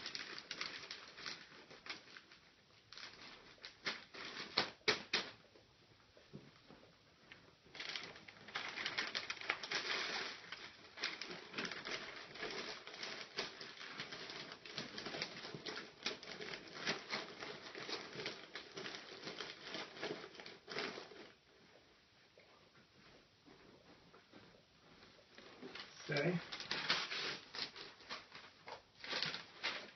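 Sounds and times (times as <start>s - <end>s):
wrapping paper rustling: 0.0s - 5.4s, 7.7s - 21.6s, 24.8s - 29.9s.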